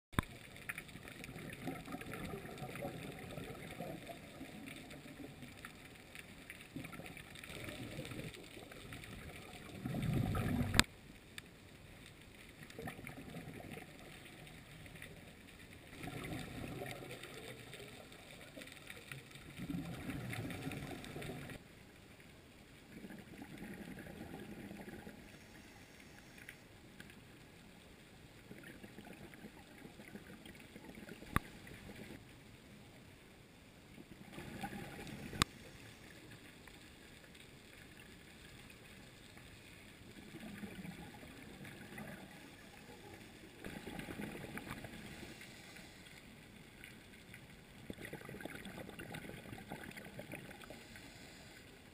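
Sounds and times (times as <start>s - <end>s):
muffled underwater water surges: 0.2s - 51.9s.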